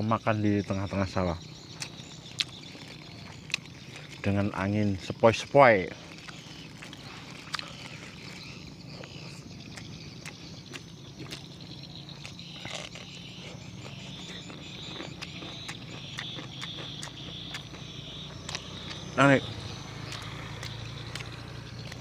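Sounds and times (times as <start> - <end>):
low outdoor hum: 0.0 - 22.0
person chewing: 1.7 - 4.3, 6.0 - 22.0.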